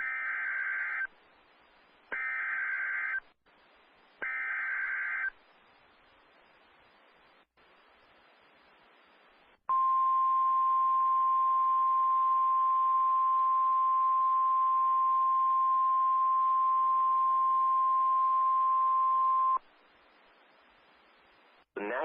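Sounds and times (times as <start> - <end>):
faint radio hiss: 0.0 - 22.0.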